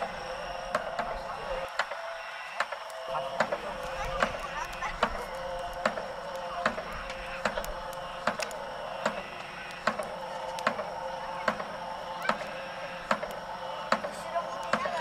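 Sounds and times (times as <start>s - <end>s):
continuous background din: 0.0s - 15.0s.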